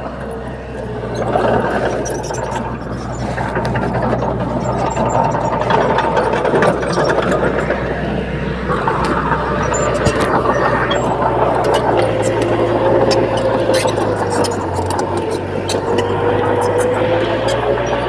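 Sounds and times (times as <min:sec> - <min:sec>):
diesel machinery engine running: 0:00.0 - 0:18.0.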